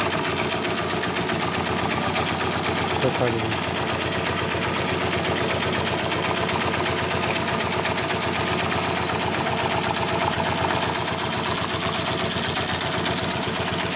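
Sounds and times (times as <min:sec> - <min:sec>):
sewing machine clatter: 0:00.0 - 0:13.9.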